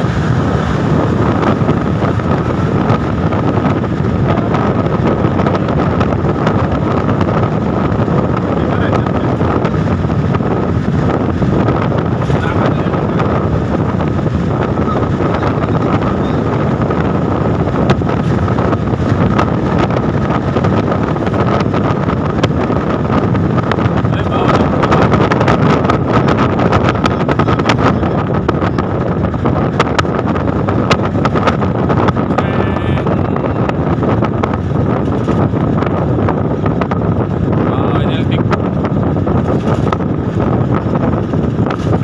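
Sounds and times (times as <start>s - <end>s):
wind and road noise: 0.0s - 42.0s
wind crackles on microphone: 0.0s - 42.0s.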